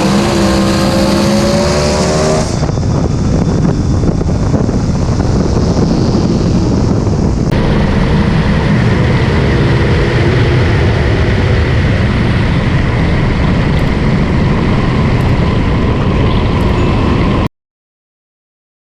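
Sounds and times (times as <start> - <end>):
loud vehicle rumble: 0.0 - 17.5.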